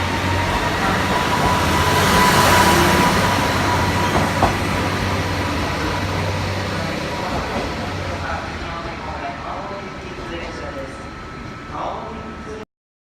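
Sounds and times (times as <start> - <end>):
train wheel and rail noise: 0.0 - 12.6.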